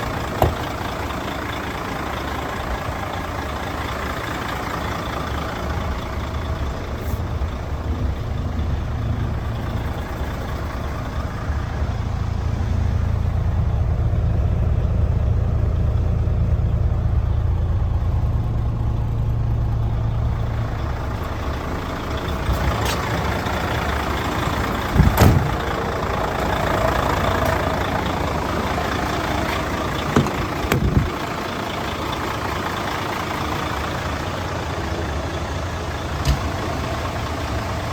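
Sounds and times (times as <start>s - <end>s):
truck diesel engine idling: 0.0s - 37.9s.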